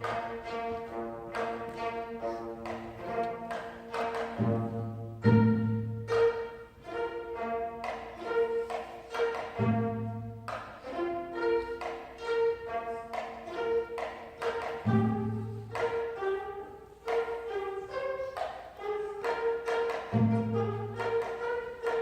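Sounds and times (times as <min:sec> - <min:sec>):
plucked zither ensemble: 0:00.0 - 0:22.0.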